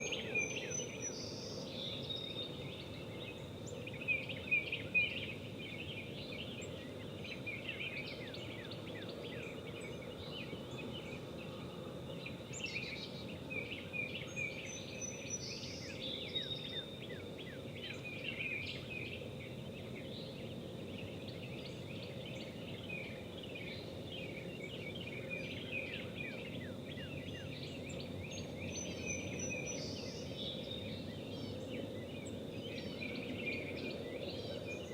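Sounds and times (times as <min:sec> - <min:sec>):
background hiss: 0:00.0 - 0:34.9
birds chirping: 0:00.0 - 0:34.9.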